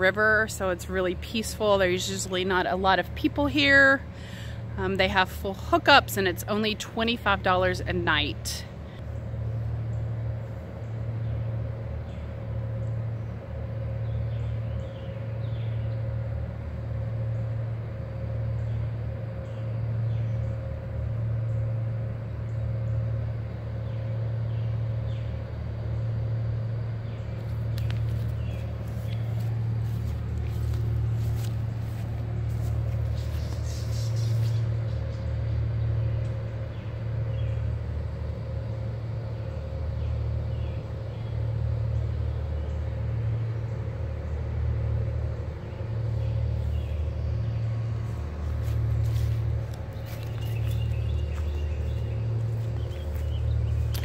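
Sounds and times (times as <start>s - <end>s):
faint steady hum: 0.0s - 54.0s
throbbing diesel engine drone: 0.0s - 54.0s.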